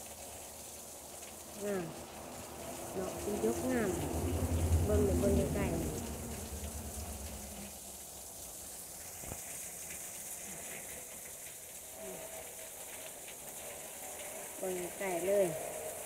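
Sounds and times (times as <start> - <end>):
water trickling under ice: 0.0 - 16.0.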